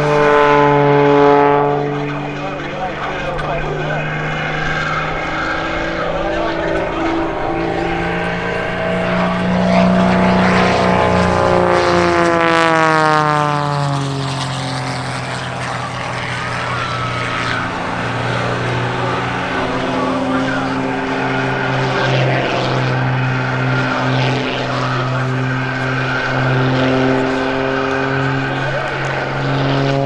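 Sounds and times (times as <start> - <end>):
biplane engine flying past: 0.0 - 30.0.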